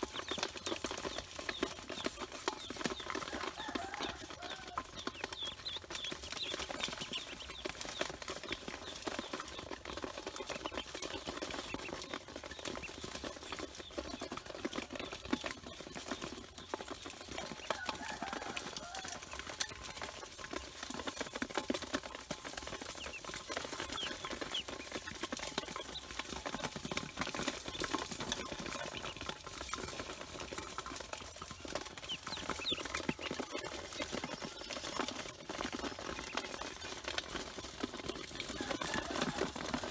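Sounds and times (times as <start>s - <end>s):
bills pecking at feed: 0.0s - 39.9s
ducklings peeping: 0.0s - 39.9s.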